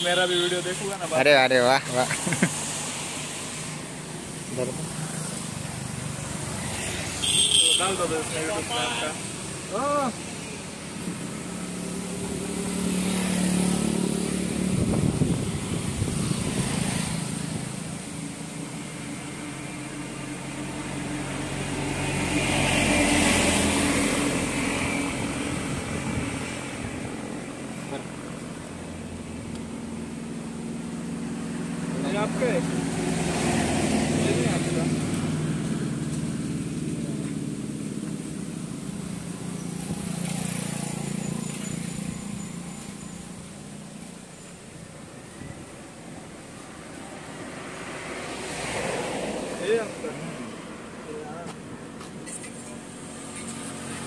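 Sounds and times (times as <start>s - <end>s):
vehicle engine passing: 0.7s - 44.3s.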